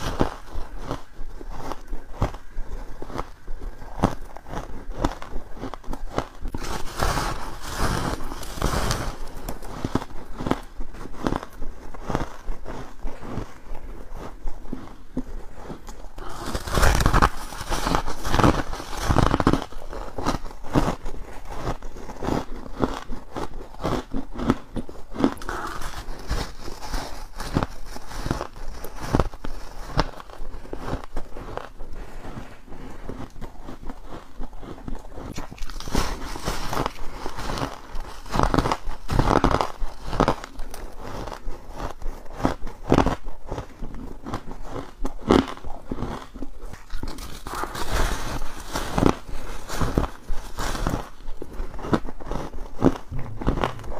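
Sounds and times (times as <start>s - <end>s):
chewing crunchy frost: 0.0s - 53.9s.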